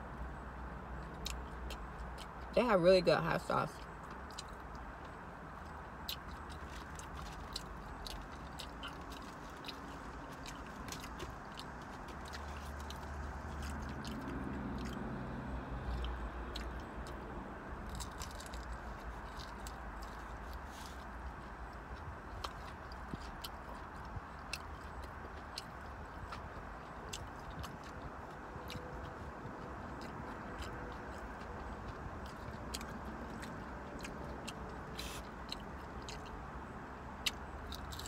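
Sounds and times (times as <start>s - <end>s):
biting and chewing crunchy food: 0.0s - 38.0s.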